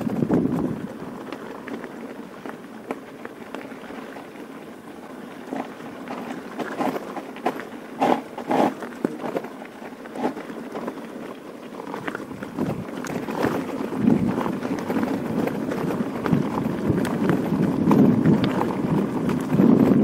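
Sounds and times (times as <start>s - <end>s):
bike clicks and rattles: 0.0s - 20.0s
bike tyres on gravel: 0.0s - 20.0s.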